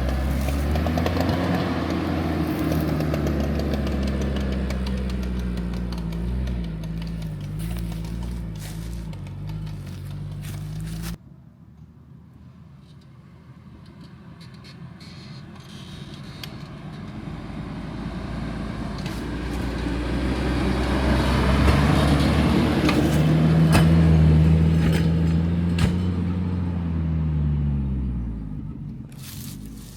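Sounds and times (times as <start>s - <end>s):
small car engine under load: 0.0s - 11.2s, 12.9s - 29.9s.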